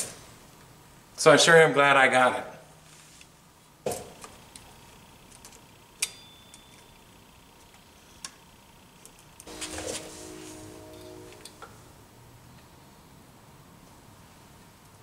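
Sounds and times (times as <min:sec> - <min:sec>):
faint steady hum: 0:02.4 - 0:15.0.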